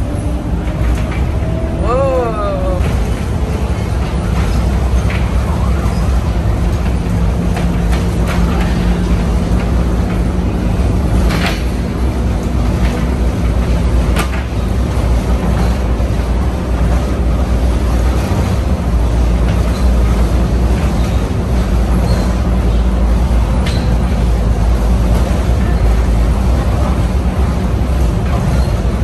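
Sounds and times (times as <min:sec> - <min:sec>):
monorail train rumble: 0:00.0 - 0:29.0.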